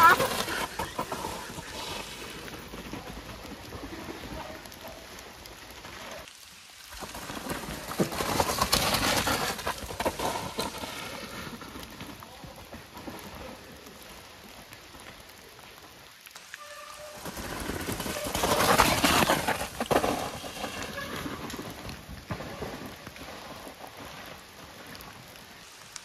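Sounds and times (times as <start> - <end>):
bike rattling: 0.0 - 14.2, 16.6 - 25.2
bike tyres rolling over leaves and mud: 0.0 - 26.0.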